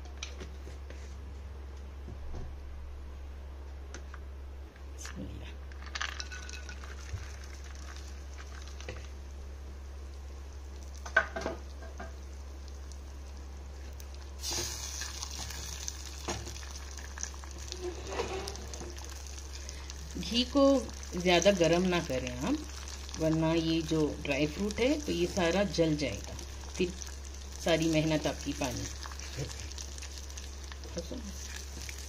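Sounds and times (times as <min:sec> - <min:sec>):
frying sizzle: 0:06.1 - 0:32.0.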